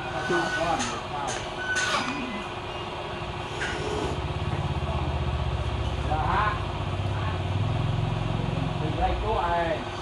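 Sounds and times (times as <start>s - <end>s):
small engine idling: 1.8s - 10.0s.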